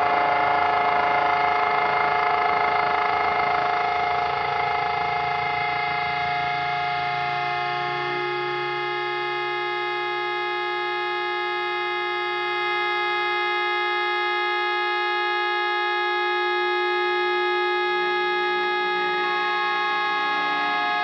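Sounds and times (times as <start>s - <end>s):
droning electric guitar chord: 0.0s - 21.0s.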